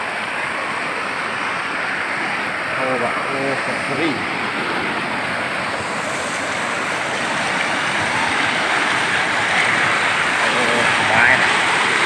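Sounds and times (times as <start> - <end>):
river rapids rushing over rocks: 0.0 - 12.0.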